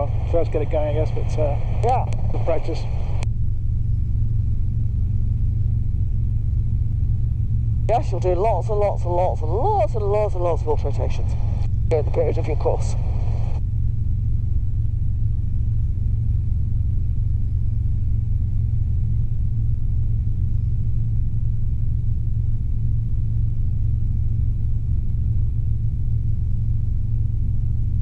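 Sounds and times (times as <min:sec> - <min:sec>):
helicopter engine and rotors drone: 0:00.0 - 0:28.0.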